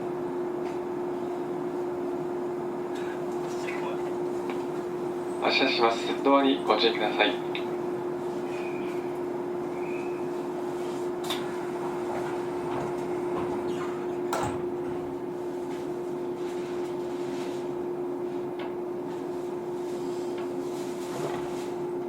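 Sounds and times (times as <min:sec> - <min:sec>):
train electrical hum: 0:00.0 - 0:22.0.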